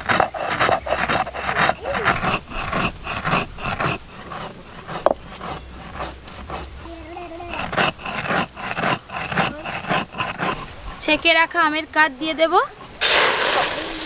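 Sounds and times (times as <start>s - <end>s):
stone roller scraping sugar: 0.0s - 13.2s.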